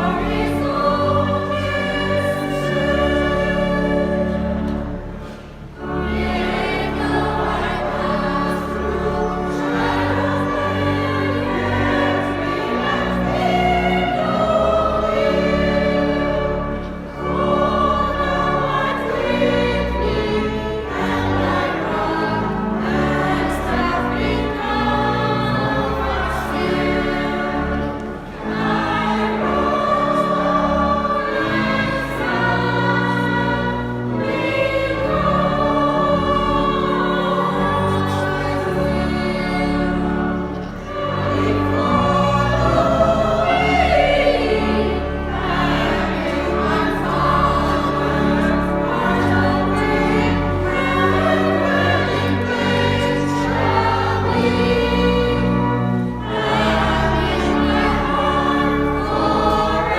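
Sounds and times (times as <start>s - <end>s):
choir singing sacred music: 0.0s - 59.9s.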